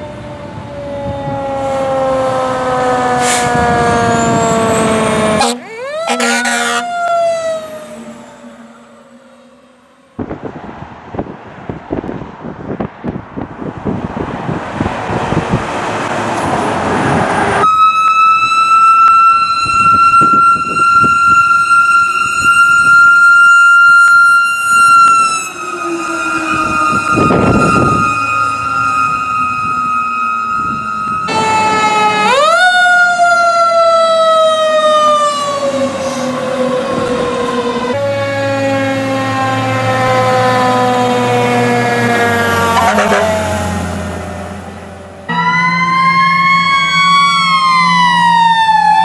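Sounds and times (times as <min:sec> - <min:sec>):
fire truck siren wailing: 0:00.0 - 0:12.2, 0:13.1 - 0:49.0
road and engine noise: 0:00.0 - 0:49.0.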